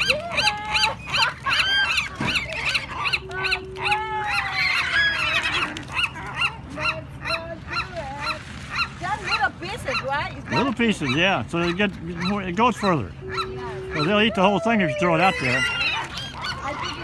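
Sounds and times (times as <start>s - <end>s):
birds honking and squawking: 0.0s - 17.0s.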